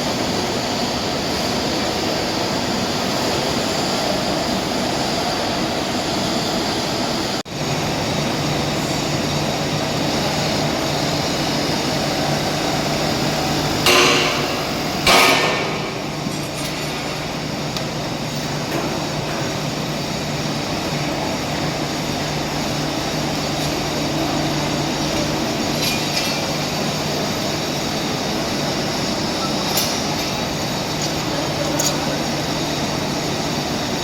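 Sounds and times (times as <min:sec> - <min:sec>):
steady machinery hum: 0:00.0 - 0:34.0.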